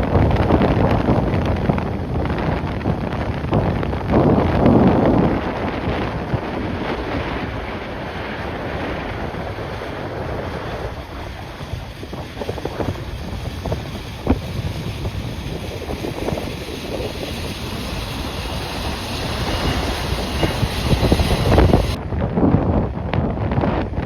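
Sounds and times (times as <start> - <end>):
gusts knocking microphone: 0.0 - 24.0
gusty wind buffeting microphone: 0.0 - 24.0.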